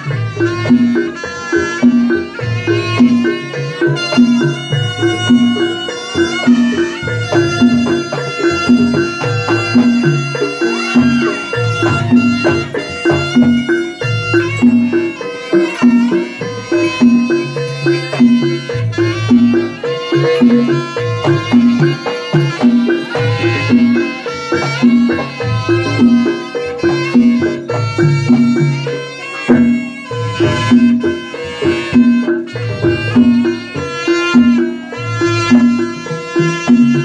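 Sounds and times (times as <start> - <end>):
drums beating: 0.0 - 37.0
gongs: 0.0 - 37.0
shrill reed melody: 0.0 - 37.0.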